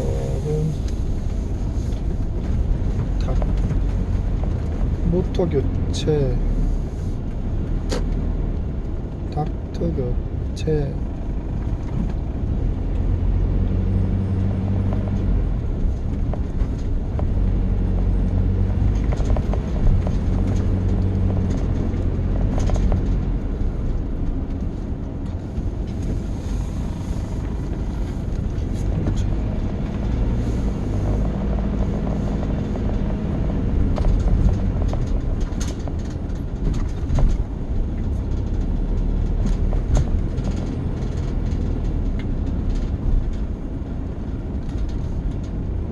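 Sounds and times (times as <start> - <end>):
engine and road rumble: 0.0 - 45.9.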